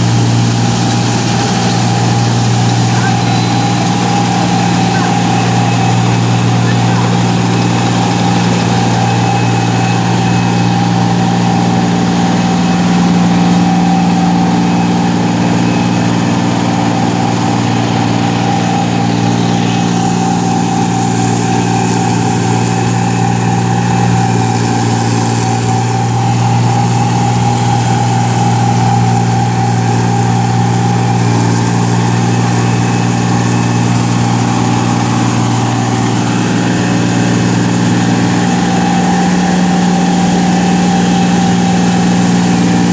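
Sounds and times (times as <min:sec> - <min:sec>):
harvester engine running: 0:00.0 - 0:42.9
steady whine: 0:00.0 - 0:42.9.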